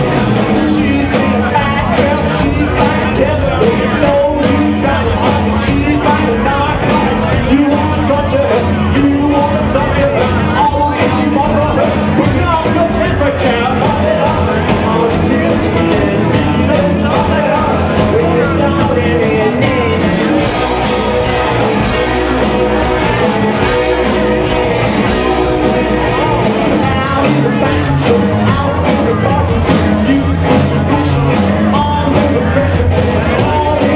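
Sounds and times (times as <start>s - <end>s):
rock band with singer: 0.0s - 33.9s.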